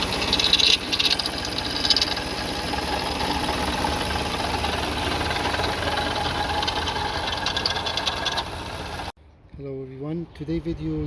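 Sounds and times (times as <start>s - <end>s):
engine idling with fast rattle: 0.0s - 9.2s.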